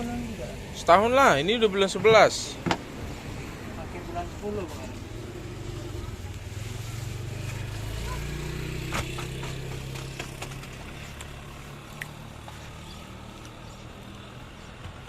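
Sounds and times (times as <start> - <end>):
passing vehicle engine hum: 0.0 - 15.0.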